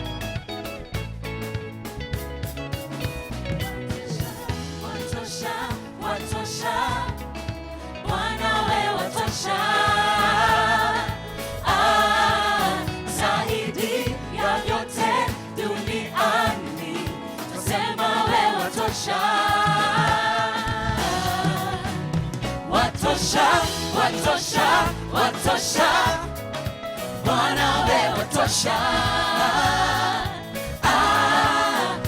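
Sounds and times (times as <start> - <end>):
band instrumental backing: 0.0 - 32.0
group of voices singing: 3.6 - 32.0.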